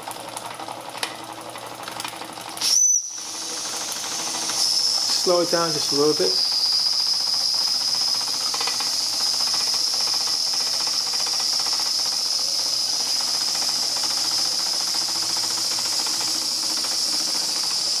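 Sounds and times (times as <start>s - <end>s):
steam engine exhaust beats: 2.6s - 18.0s
steam hissing: 2.6s - 18.0s.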